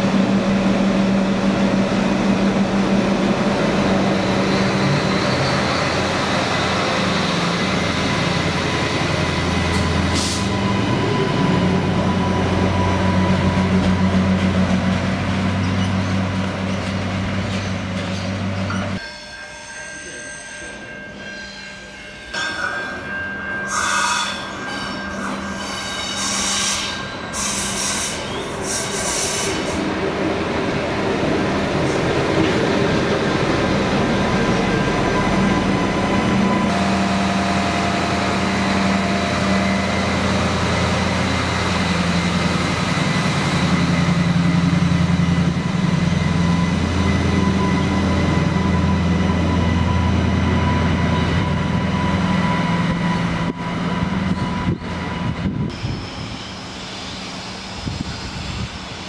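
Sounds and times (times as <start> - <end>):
train engine and traction hum: 0.0 - 59.0
train wheel squeals: 3.8 - 14.5, 15.5 - 19.3, 20.0 - 29.9, 34.5 - 59.0.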